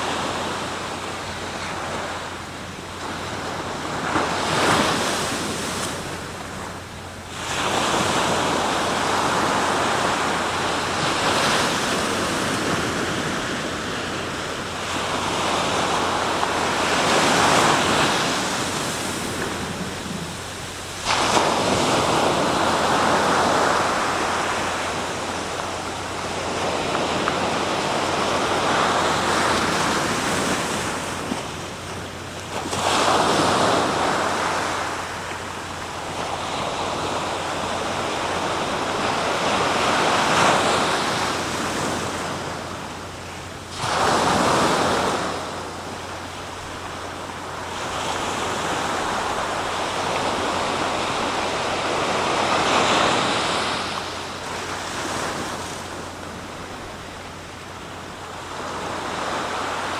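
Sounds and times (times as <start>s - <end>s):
waves washing on shore: 0.0s - 59.9s.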